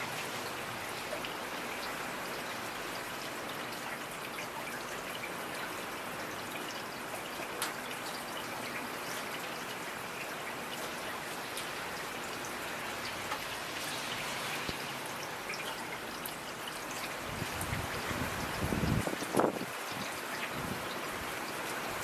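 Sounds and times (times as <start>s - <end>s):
raindrops ticking: 0.0s - 22.0s
steady rain: 0.0s - 22.0s.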